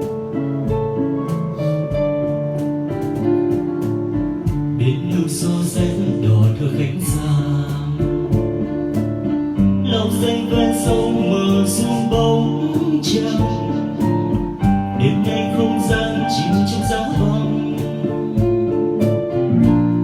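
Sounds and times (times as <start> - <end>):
guitar chords: 0.0 - 20.0
keyboard chords: 0.0 - 20.0.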